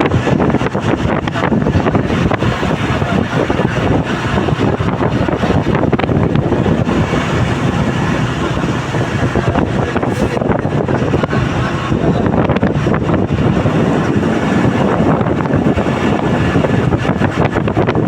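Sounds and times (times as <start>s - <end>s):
vehicle rumble: 0.0s - 18.0s
wind rushing over microphone: 0.0s - 18.0s.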